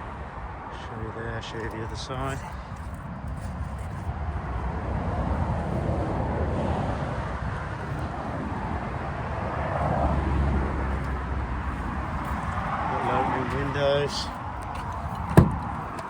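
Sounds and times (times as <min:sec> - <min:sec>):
road traffic rumble: 0:00.0 - 0:16.0
vehicle passing: 0:00.0 - 0:16.0.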